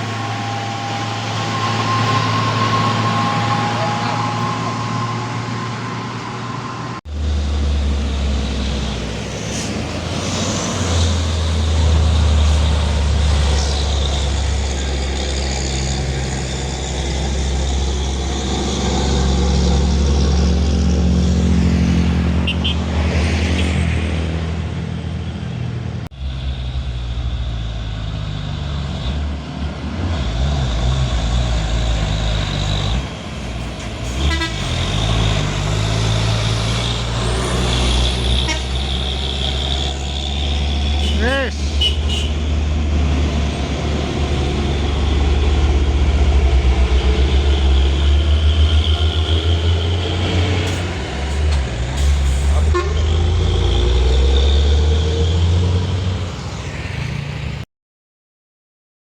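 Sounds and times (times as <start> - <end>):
heavy truck engine droning: 0.0 - 57.6.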